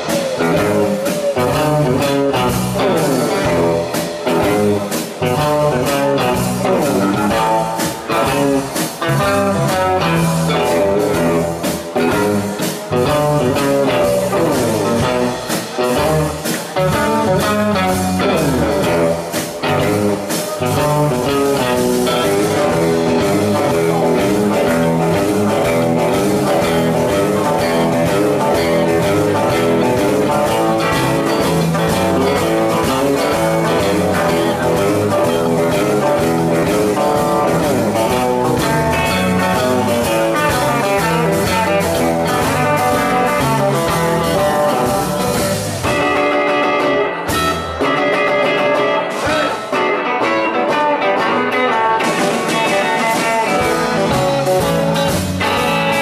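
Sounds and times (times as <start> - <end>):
drum kit: 0.0 - 56.0
electric bass: 0.0 - 56.0
lead electric guitar: 0.0 - 56.0
second electric guitar: 0.0 - 56.0.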